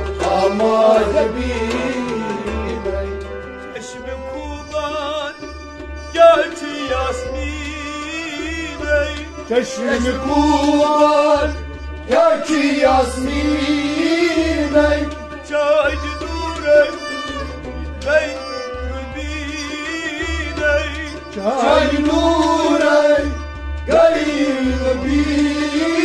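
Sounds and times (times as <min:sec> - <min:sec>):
bowed sarangi: 0:00.0 - 0:26.0
harmonium: 0:00.0 - 0:26.0
man singing with vibrato: 0:00.0 - 0:26.0.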